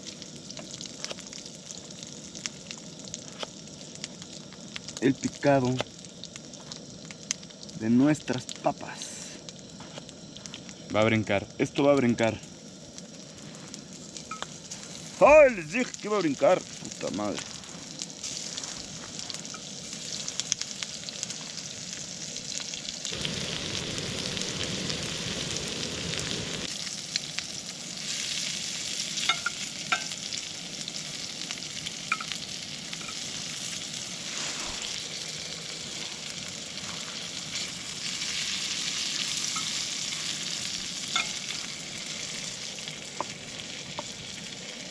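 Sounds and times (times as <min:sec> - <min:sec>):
potatoes sizzling in oil: 0:00.0 - 0:44.9.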